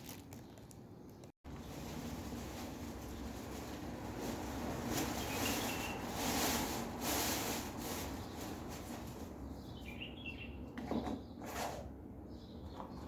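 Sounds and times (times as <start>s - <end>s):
caged birds chirping: 0.4s - 13.0s.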